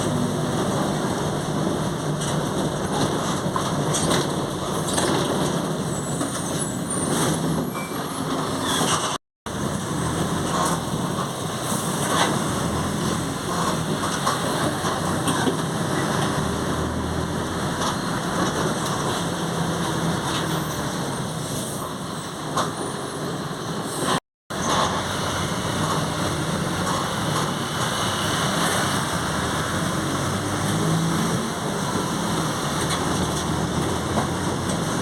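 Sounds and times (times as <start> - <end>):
bus running and road noise: 0.0 - 35.0.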